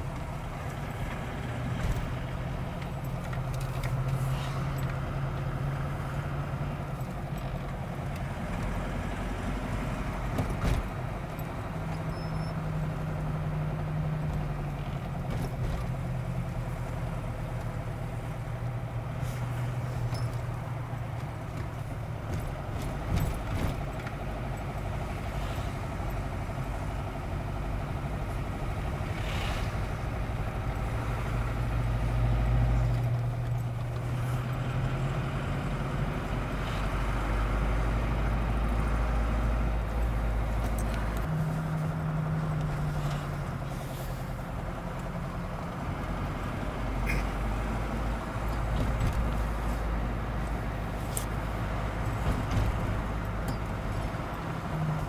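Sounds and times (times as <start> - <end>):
vehicle engine and tyre hum: 0.0 - 55.0.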